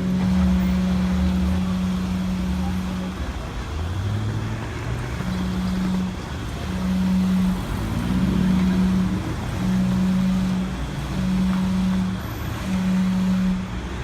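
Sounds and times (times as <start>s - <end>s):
engine revving: 0.0s - 14.0s
pulsing traffic hum: 0.0s - 14.0s.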